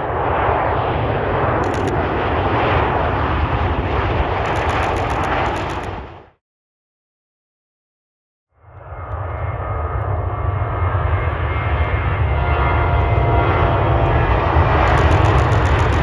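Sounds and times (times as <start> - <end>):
jet engines roaring: 0.0 - 6.4, 8.7 - 16.0.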